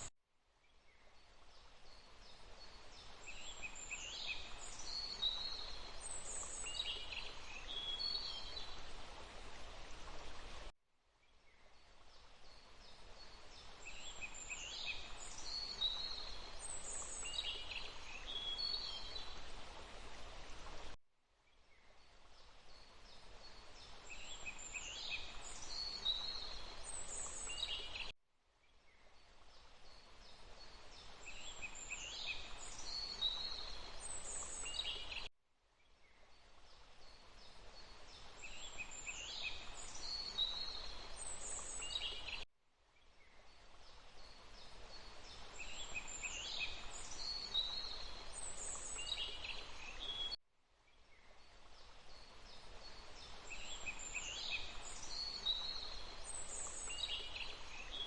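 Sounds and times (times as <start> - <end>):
songbirds chirping: 0.0 - 58.0
rushing water hiss: 1.6 - 10.7, 12.2 - 21.0, 22.4 - 28.1, 29.5 - 35.3, 36.6 - 42.4, 43.6 - 50.4, 51.4 - 58.0.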